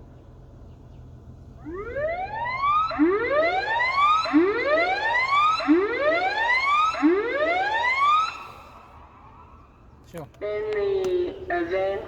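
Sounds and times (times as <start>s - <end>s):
warning siren whooping: 1.6s - 9.7s, 10.4s - 12.0s.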